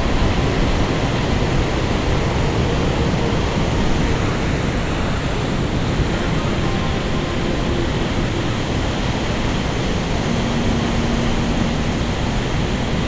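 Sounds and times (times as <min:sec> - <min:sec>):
rushing falling water: 0:00.0 - 0:13.0.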